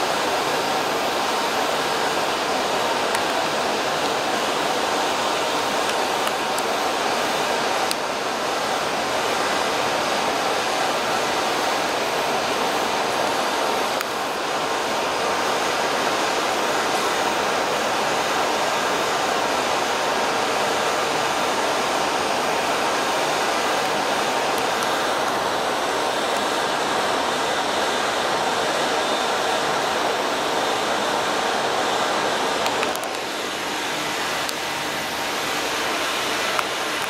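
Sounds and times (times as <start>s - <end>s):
rushing blown air: 0.0s - 37.0s.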